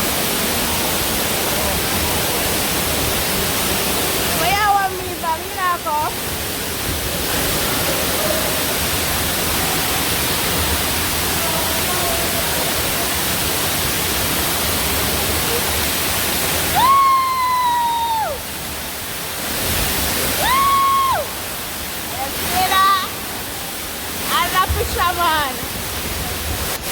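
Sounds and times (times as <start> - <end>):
waterfall and river rushing: 0.0 - 26.9.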